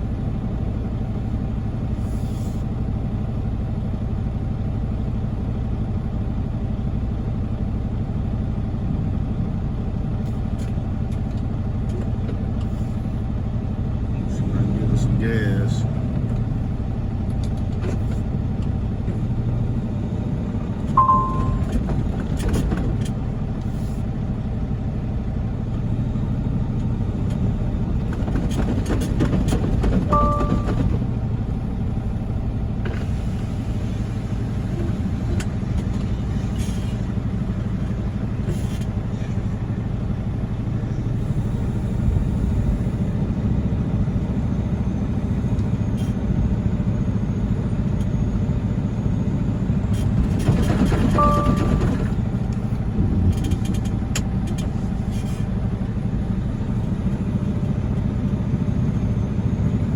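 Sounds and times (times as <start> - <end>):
diesel truck engine rumbling: 0.0 - 59.9.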